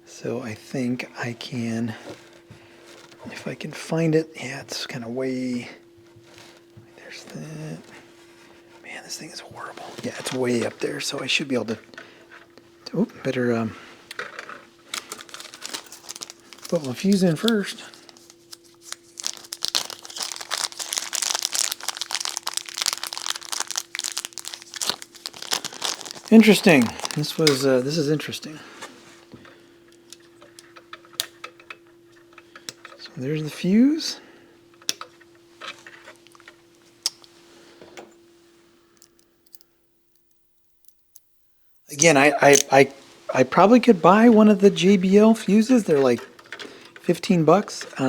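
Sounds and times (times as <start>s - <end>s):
faint steady hum: 0.0s - 48.0s
crinkling and rustling handling: 0.4s - 48.0s.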